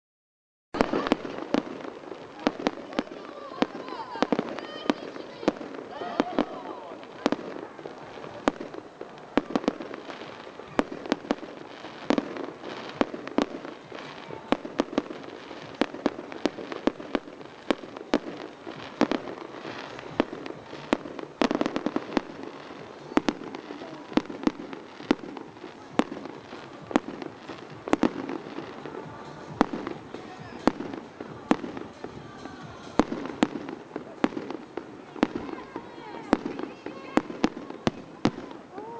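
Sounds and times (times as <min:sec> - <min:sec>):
fireworks bangs: 0:00.8 - 0:38.9.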